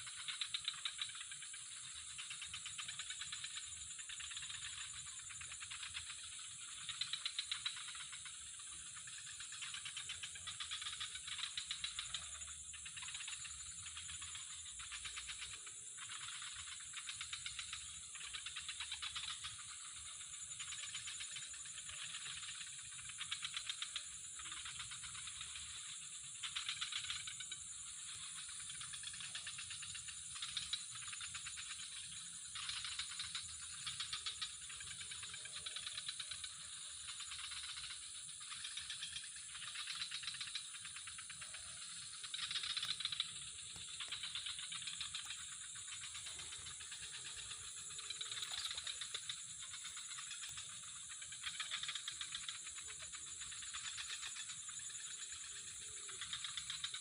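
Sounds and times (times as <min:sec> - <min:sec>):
insects calling: 0:00.0 - 0:57.0.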